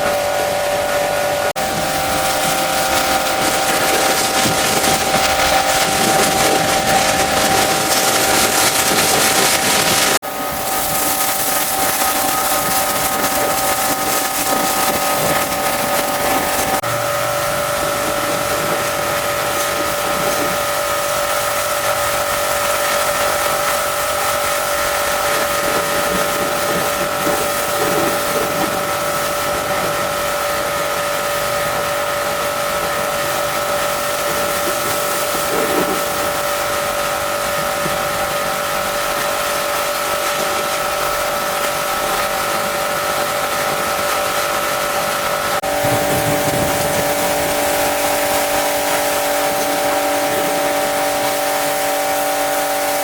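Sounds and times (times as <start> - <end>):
machine drone with tones: 0.0 - 53.0.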